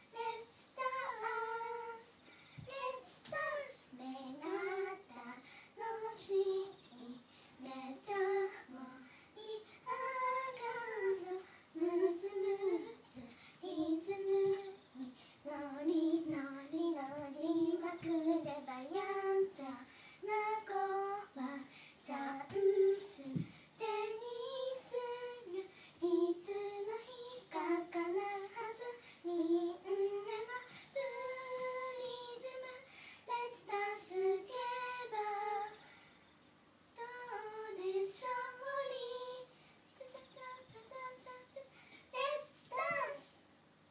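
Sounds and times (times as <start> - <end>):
girls singing unaccompanied: 0.0 - 35.9, 36.9 - 43.3.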